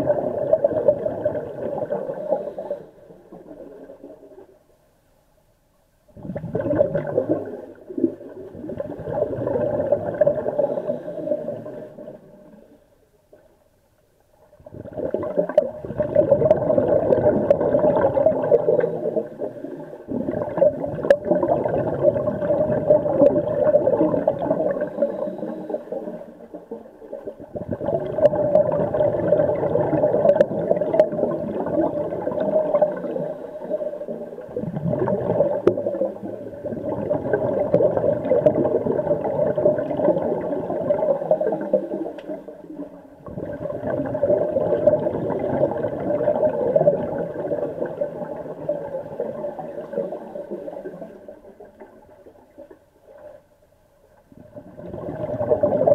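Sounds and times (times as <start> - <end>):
underwater regulator bubbles rumbling: 0.0 - 4.6, 6.1 - 12.6, 14.5 - 53.3, 54.2 - 55.9.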